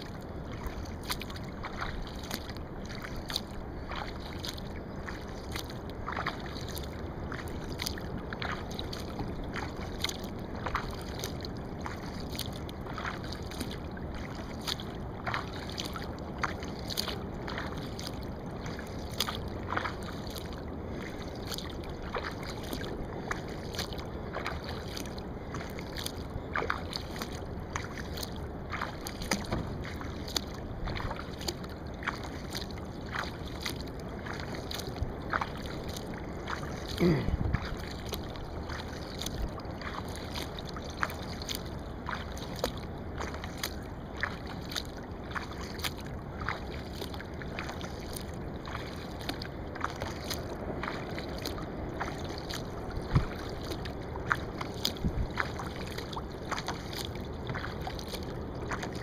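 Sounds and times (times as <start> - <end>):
paddle splashing and dripping: 0.0 - 59.0
water washing: 0.0 - 59.0.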